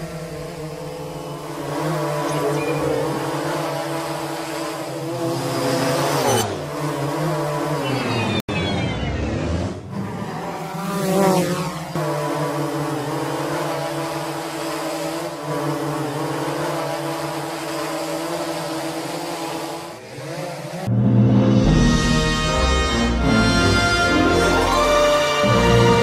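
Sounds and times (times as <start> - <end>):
quadcopter drone buzzing: 0.0 - 26.0.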